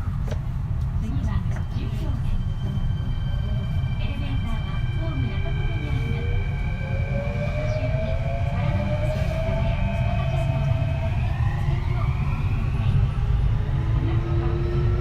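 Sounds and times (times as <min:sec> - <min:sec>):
wheels rumbling on rail: 0:00.0 - 0:15.0
train inverter and motors whining: 0:01.4 - 0:15.0.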